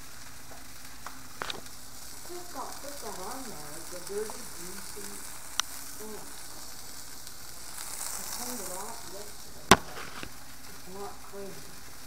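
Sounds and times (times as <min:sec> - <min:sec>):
burger patty sizzling in skillet: 0:00.0 - 0:12.0.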